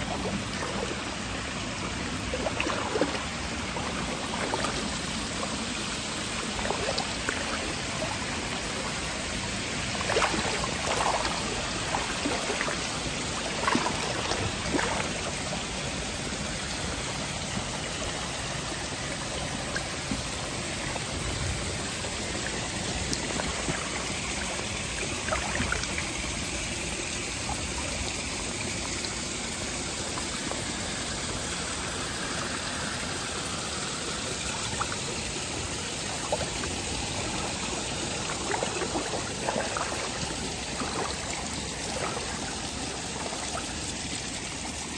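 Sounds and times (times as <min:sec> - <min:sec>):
splashes of wading steps: 0:00.0 - 0:44.9
stream flowing over stones: 0:00.0 - 0:44.9.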